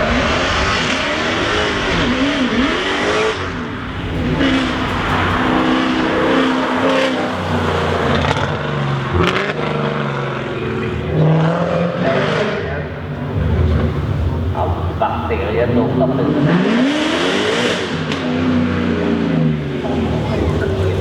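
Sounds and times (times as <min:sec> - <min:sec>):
sports car engines revving: 0:00.0 - 0:21.0.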